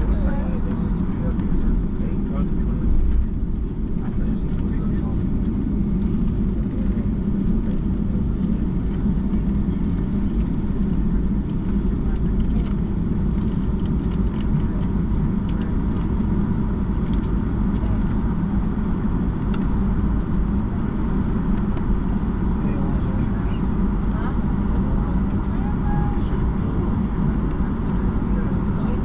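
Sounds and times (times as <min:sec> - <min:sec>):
airplane cabin rumble: 0:00.0 - 0:29.0.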